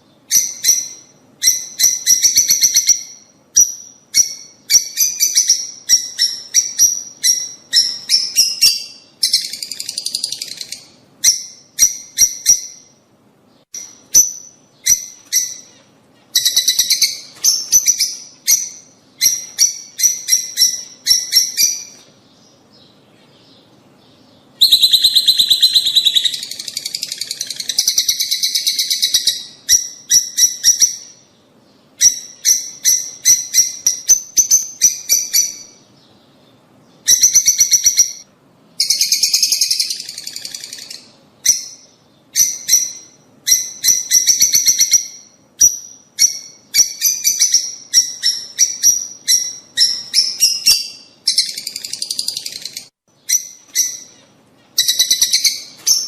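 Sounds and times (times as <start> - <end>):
lovebirds chirping: 0.0 - 56.0.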